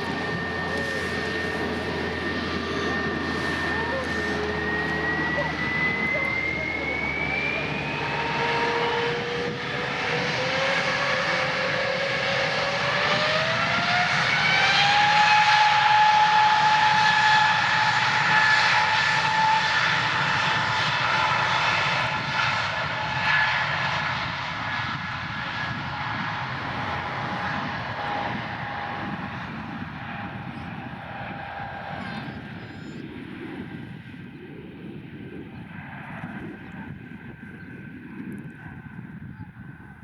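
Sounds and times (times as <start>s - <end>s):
jet engines spooling up: 0.0s - 34.1s.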